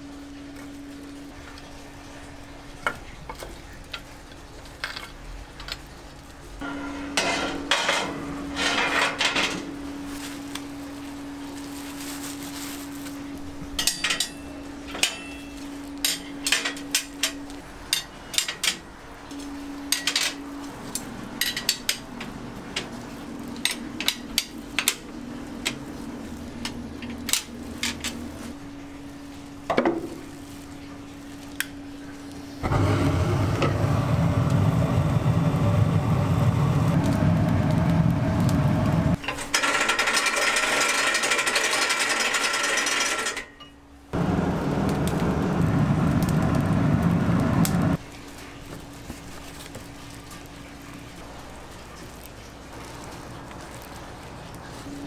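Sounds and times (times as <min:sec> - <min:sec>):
steady low hum: 0:06.4 - 0:39.2, 0:43.8 - 0:55.0.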